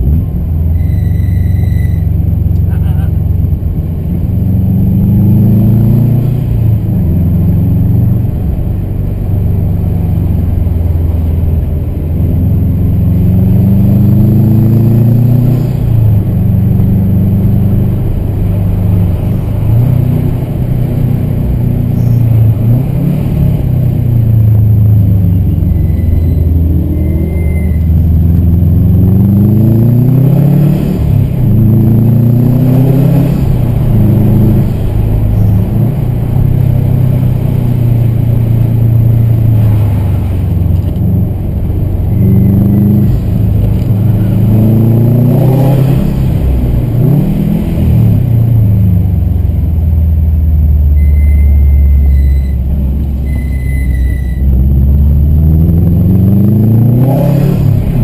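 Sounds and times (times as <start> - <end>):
car engine accelerating: 0.0 - 58.0
road rumble: 0.0 - 58.0.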